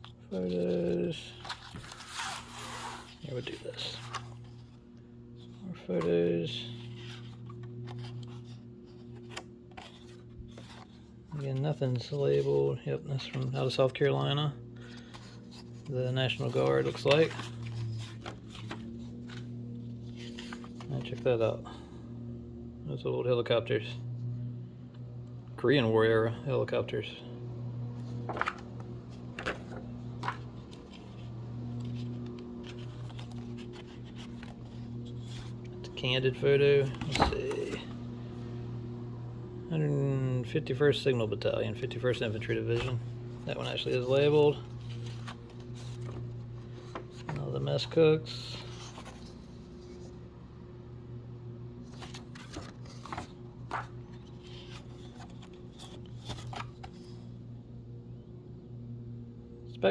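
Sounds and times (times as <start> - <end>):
photo prints rustling: 0.0 - 22.1, 27.9 - 39.0, 40.6 - 50.8, 51.6 - 57.5
low steady hum: 0.0 - 59.9.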